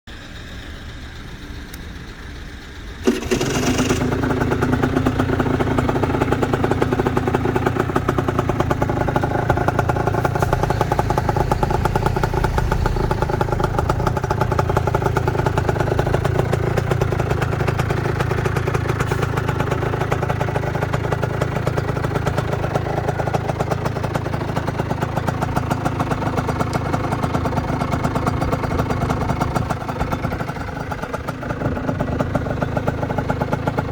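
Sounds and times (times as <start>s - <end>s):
two-stroke engine running: 0.1s - 33.9s.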